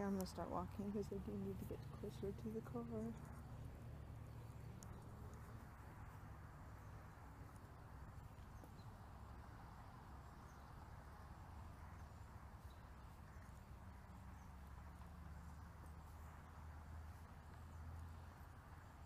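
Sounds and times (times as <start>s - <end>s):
faint outdoor rush: 0.0s - 19.0s.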